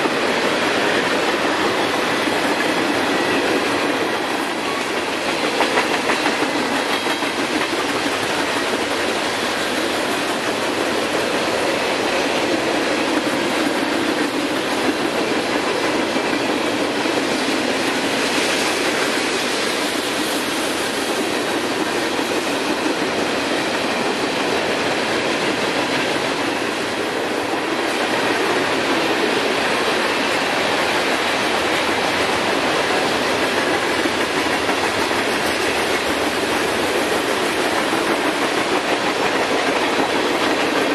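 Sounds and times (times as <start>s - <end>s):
steel wheels running on rail: 0.0s - 40.9s.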